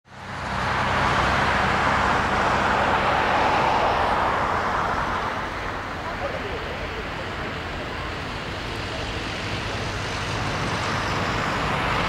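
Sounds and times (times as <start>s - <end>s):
jet engines at takeoff: 0.1s - 12.0s.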